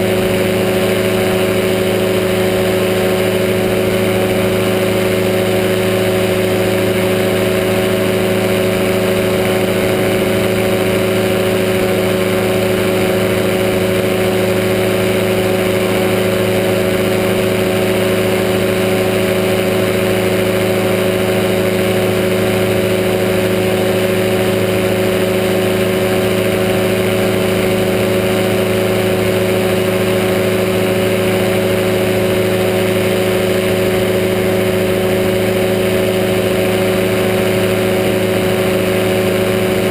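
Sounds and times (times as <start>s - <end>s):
engine and propeller drone: 0.0s - 39.9s.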